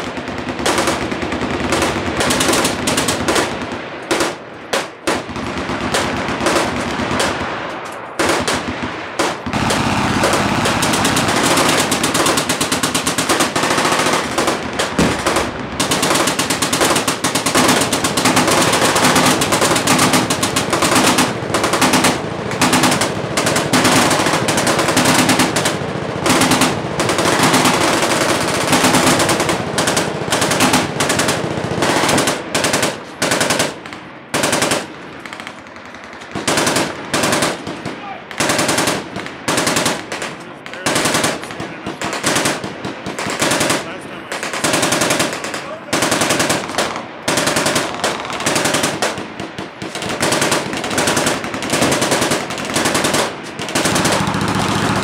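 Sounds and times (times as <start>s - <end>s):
machine guns firing: 0.0s - 55.0s.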